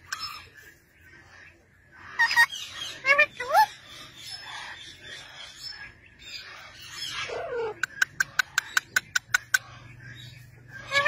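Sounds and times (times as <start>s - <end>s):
parakeets calling: 0.0s - 11.0s.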